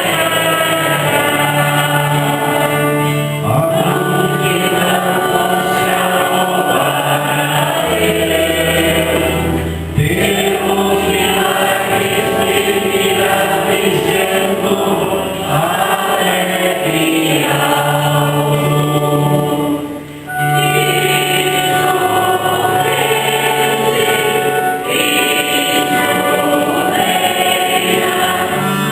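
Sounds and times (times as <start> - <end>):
choir singing a hymn: 0.0 - 28.9
low held accompaniment: 0.0 - 28.9.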